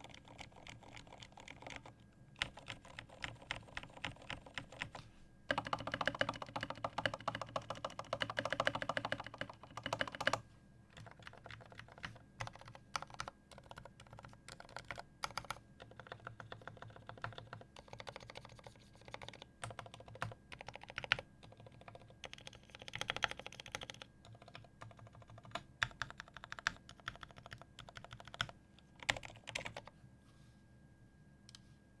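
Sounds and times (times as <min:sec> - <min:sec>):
typing on mechanical keyboard: 0:00.0 - 0:10.4, 0:11.0 - 0:29.9.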